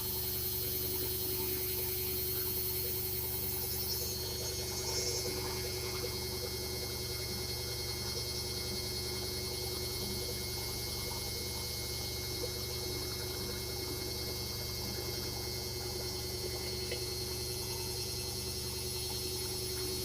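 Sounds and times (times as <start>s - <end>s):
washing machine humming and whining: 0.0s - 20.0s.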